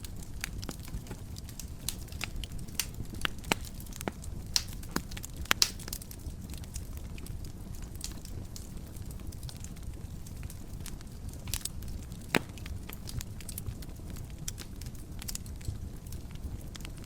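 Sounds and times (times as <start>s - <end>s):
fire crackling: 0.0s - 17.0s
fire rumbling: 0.0s - 17.0s.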